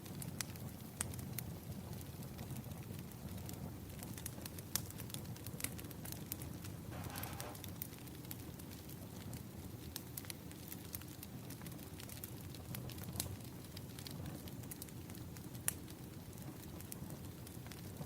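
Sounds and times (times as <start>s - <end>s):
burning logs rumbling: 0.0s - 18.0s
fire crackles and pops: 0.0s - 18.0s.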